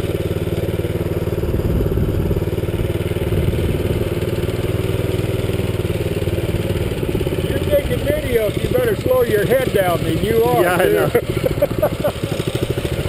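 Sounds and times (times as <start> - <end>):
small engine puttering: 0.0 - 13.0.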